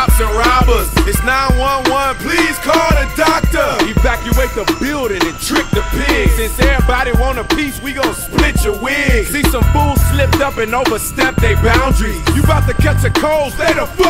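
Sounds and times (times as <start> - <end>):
hip hop vocals over bass beat: 0.0 - 14.0.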